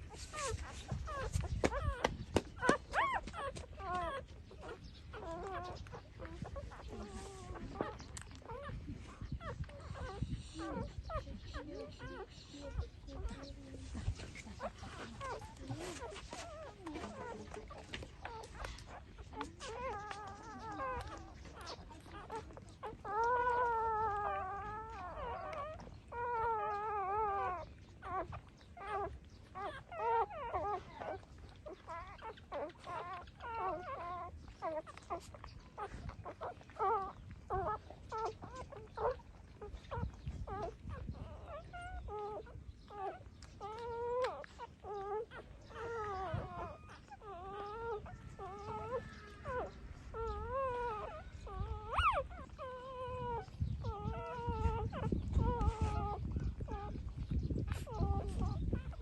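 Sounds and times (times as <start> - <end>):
puppies whimpering and squealing: 0.0 - 59.0.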